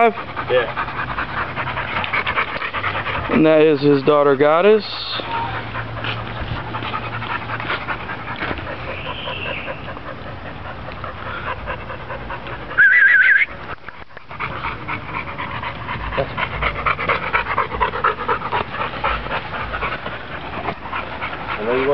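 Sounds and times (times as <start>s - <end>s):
dog panting rapidly: 0.0s - 12.8s, 13.4s - 21.9s.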